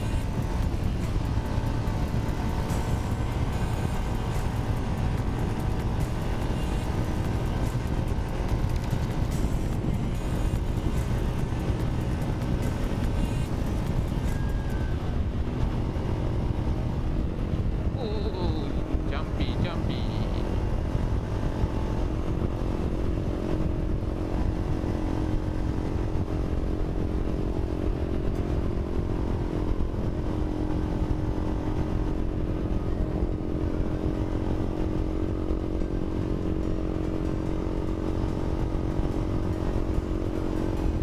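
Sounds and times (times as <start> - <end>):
motorcycle engine cruising: 0.0 - 41.0
wind rumble on microphone: 0.0 - 41.0.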